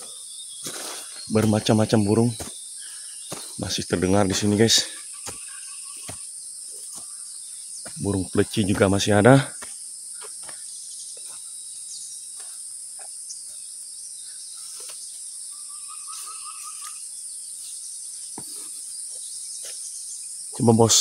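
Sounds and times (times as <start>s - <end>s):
faint bird calls: 0.0s - 9.4s, 10.1s - 20.2s
insect trill: 0.0s - 21.0s
insects droning chorus: 0.0s - 21.0s.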